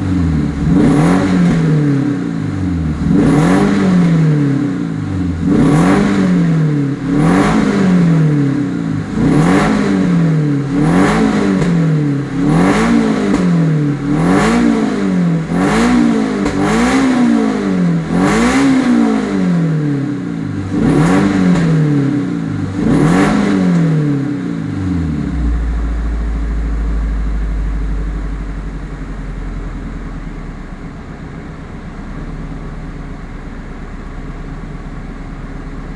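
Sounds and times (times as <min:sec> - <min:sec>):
car engine idling: 0:00.0 - 0:35.9
car engine revving: 0:00.0 - 0:35.9.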